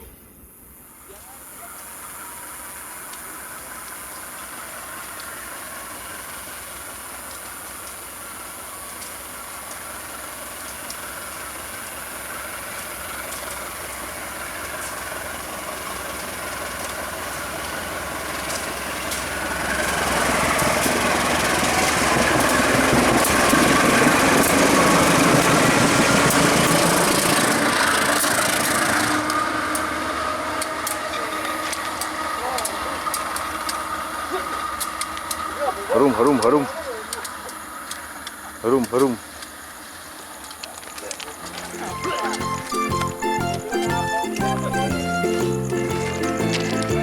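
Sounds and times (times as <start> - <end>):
locomotive engine running: 1.4 - 47.0.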